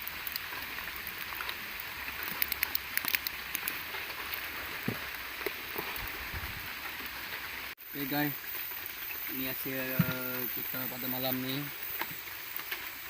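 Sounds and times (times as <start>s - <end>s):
sharp drip-like ticks: 0.0s - 6.2s, 6.8s - 13.0s
rain falling: 0.0s - 13.0s.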